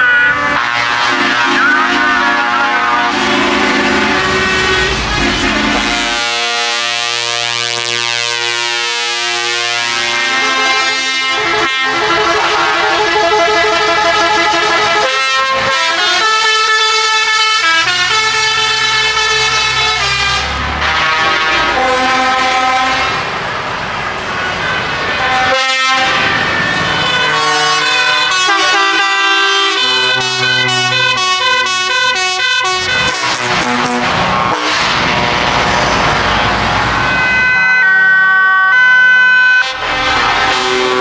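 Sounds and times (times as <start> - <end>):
truck air horns honking: 0.0 - 41.0
truck engines: 0.0 - 41.0.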